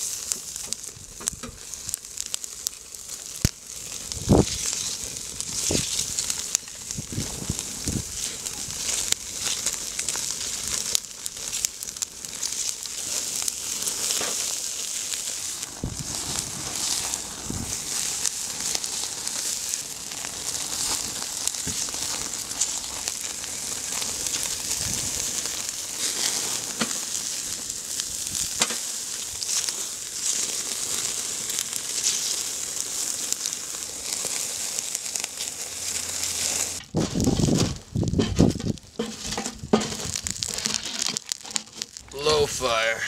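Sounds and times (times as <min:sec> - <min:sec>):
fire crackling and popping: 0:00.0 - 0:43.0
meat sizzling on a grill: 0:00.0 - 0:43.0.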